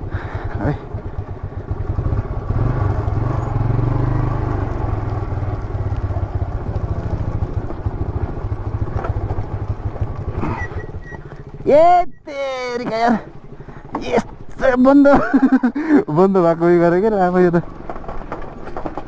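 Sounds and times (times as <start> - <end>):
motorcycle engine at low revs: 0.0 - 19.0.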